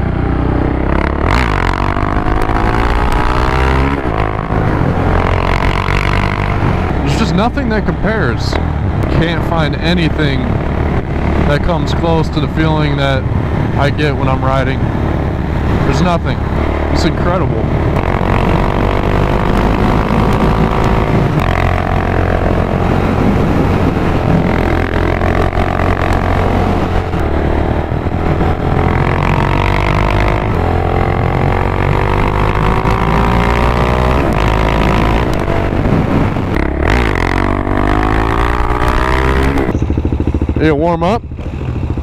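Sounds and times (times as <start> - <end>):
motorcycle engine accelerating: 0.0 - 42.0
wind rush on microphone: 0.0 - 42.0.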